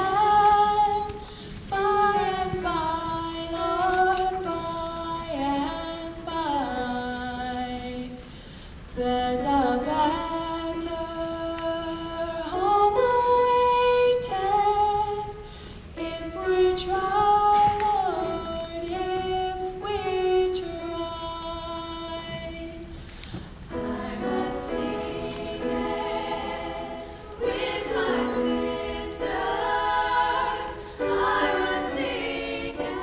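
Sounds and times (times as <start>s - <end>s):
girl singing unaccompanied: 0.0s - 8.2s, 9.0s - 22.9s, 23.7s - 33.0s.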